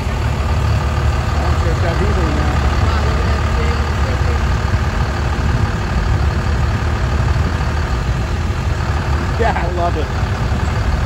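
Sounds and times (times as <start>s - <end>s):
faint voices: 0.0s - 11.0s
vehicle engine running: 0.0s - 11.0s.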